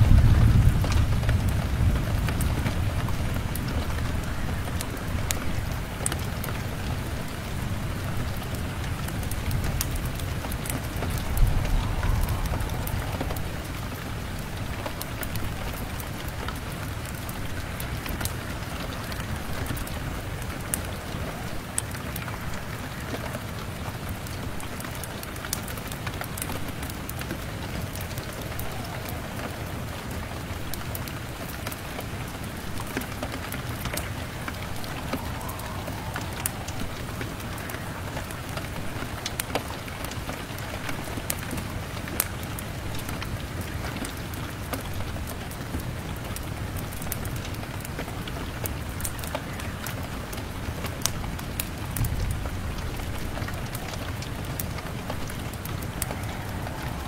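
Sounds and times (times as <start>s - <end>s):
fire crackling and popping: 0.0s - 57.0s
rain pattering on window glass: 0.0s - 57.0s.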